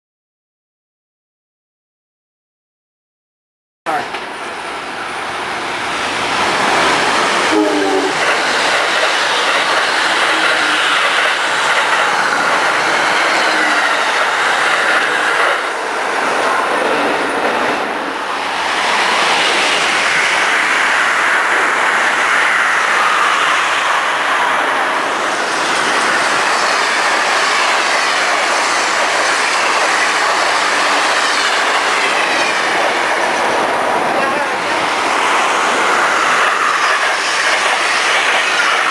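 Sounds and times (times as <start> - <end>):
train wheels rushing on rail: 3.9 - 38.9.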